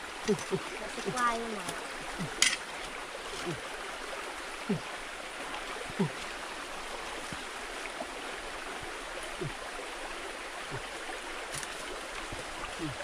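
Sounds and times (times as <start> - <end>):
low water gurgles: 0.0 - 13.0
stream rushing: 0.0 - 13.0.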